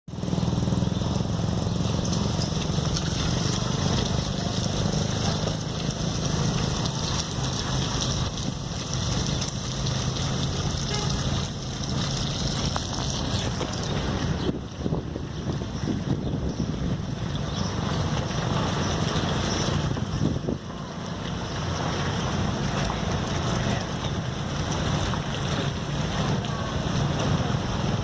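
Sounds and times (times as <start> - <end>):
engine running: 0.1 - 28.0
rushing wind noise: 1.8 - 28.0.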